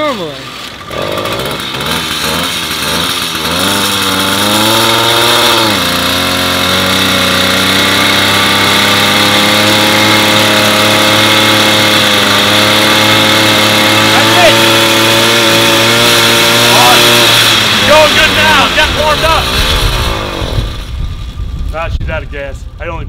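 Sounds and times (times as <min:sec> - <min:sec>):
small two-stroke engine: 0:00.0 - 0:21.1.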